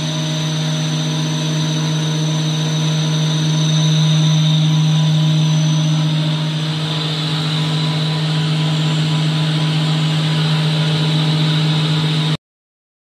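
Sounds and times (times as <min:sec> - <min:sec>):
machine motors humming: 0:00.0 - 0:12.4.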